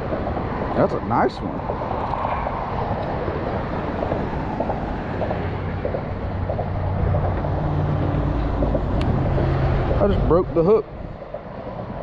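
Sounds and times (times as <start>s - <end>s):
low outdoor rumble: 0.0s - 12.0s
passing vehicle engine hum: 0.0s - 12.0s.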